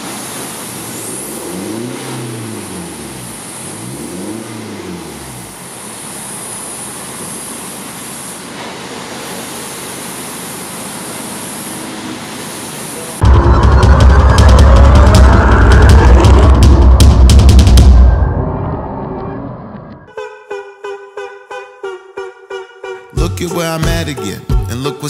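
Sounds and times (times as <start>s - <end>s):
car engine idling and revving: 0.0s - 20.1s.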